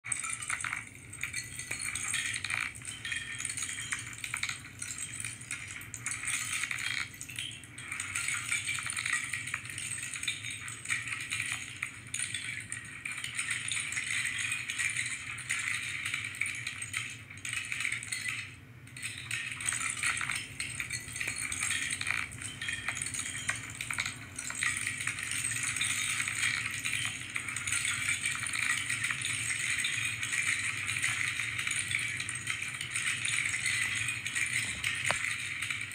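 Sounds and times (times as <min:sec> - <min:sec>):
plastic bricks clattering: 0:00.1 - 0:35.9.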